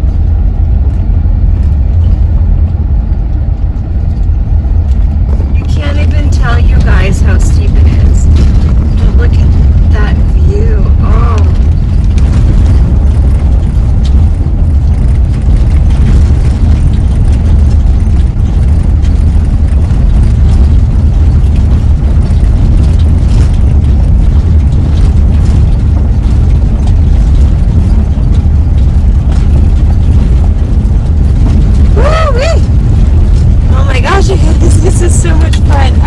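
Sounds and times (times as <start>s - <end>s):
engine rumble: 0.0s - 36.0s
road noise: 0.0s - 36.0s.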